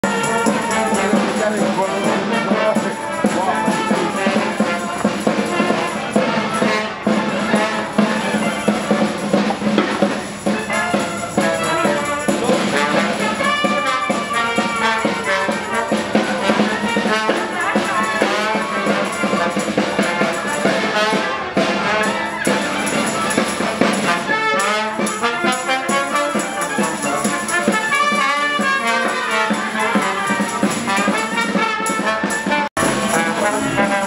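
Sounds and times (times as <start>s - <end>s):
bass drum beat: 0.0s - 24.7s, 26.2s - 34.0s
trumpets playing a tune: 0.0s - 34.0s.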